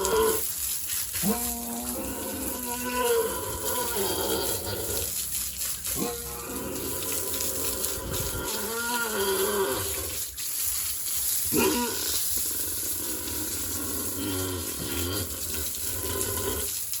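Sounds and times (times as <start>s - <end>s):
pigs grunting: 0.0s - 0.5s, 1.1s - 10.3s, 11.5s - 16.8s
running water: 0.0s - 17.0s.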